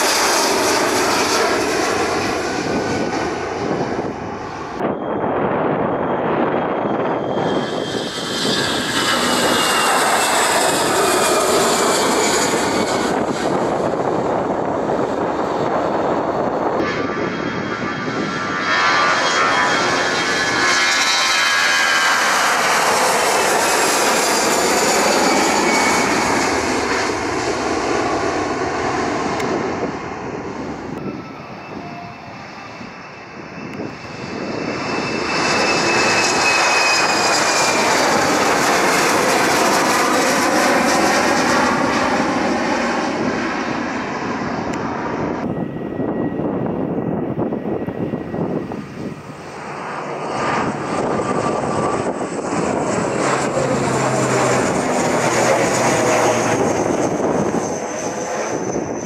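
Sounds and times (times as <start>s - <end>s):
jet airliner taking off: 0.0s - 59.0s.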